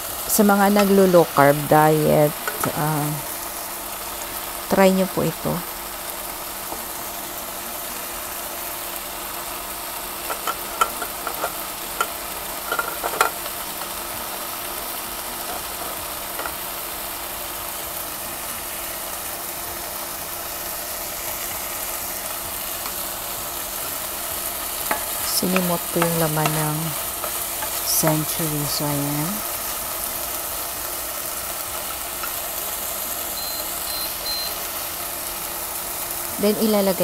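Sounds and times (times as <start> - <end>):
food sizzling in a wok: 0.0 - 37.0.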